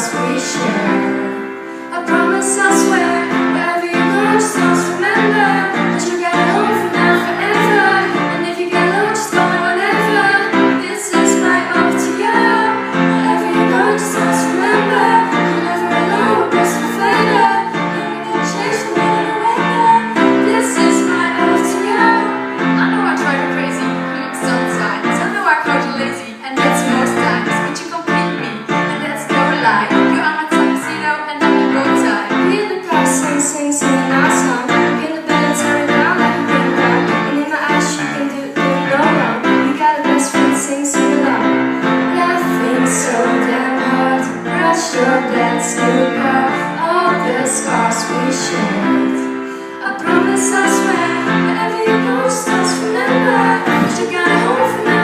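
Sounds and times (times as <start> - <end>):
backing track: 0.0 - 55.0
girls singing a pop ballad: 0.0 - 55.0.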